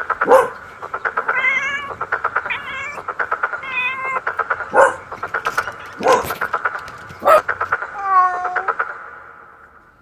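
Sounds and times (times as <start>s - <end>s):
wavering animal calls: 0.0s - 8.9s
fast steady clicks: 0.0s - 9.4s.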